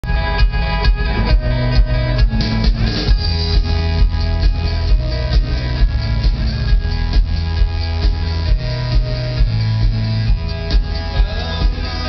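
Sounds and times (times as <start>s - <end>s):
live band playing amplified music: 0.0s - 12.0s.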